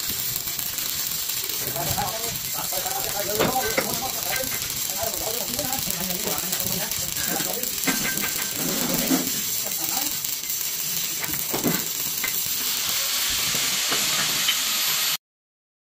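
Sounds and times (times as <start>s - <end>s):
steady hiss: 0.0s - 15.2s.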